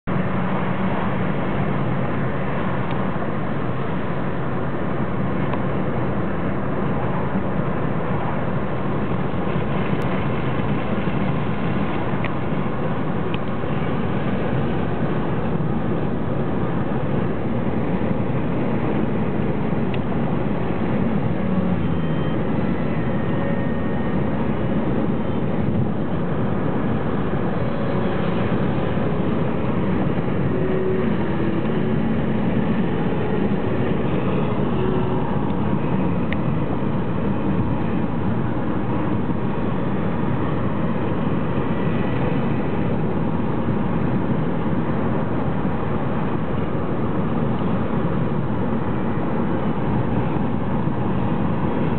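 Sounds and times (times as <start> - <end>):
car interior road and engine noise: 0.0 - 51.9.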